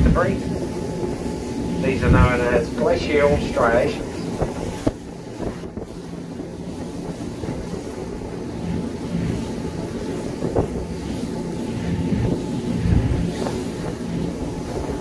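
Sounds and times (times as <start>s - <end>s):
boat engine humming: 0.0s - 15.0s
wind buffeting the microphone: 0.0s - 15.0s.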